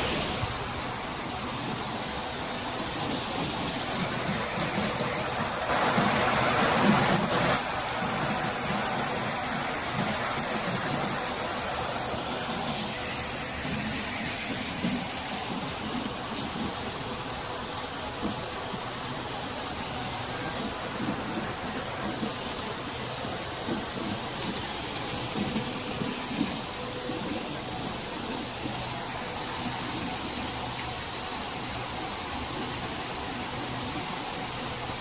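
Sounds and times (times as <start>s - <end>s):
water falling and splashing: 0.0s - 35.0s.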